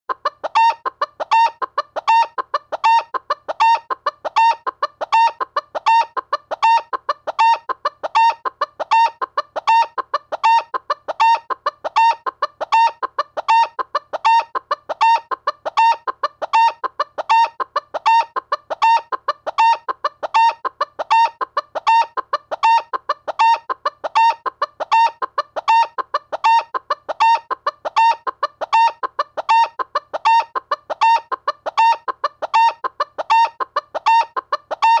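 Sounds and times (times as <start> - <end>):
chicken clucking: 0.1 - 35.0.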